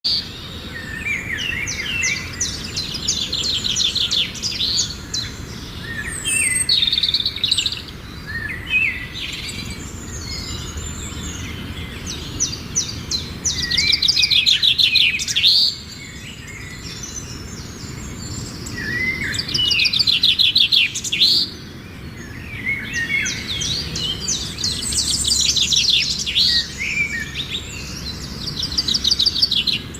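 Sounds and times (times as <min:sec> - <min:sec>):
birds chirping and trilling: 0:00.1 - 0:29.9.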